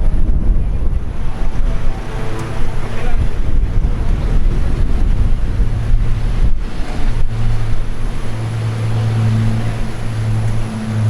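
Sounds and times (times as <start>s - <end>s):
low engine rumble: 0.0s - 11.0s
wind buffeting microphone: 0.0s - 11.0s.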